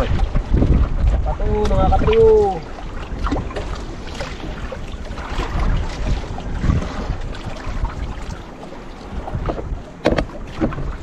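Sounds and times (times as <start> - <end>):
water slapping against boat hull: 0.0 - 11.0
wind buffeting microphone: 0.0 - 11.0.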